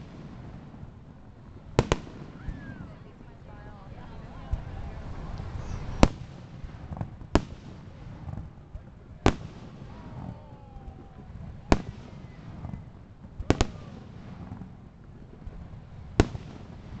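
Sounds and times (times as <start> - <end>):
fireworks bursting with sharp bangs: 0.0 - 17.0.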